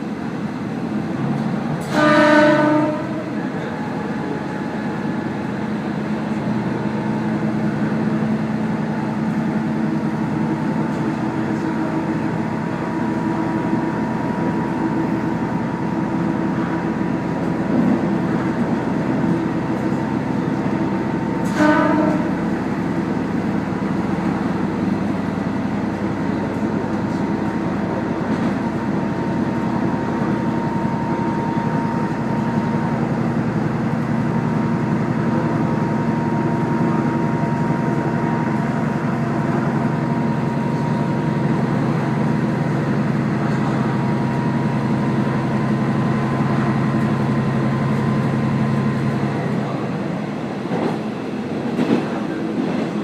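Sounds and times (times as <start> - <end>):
railcar engine drone: 0.0 - 53.0
wheels rumbling on rails: 0.0 - 53.0.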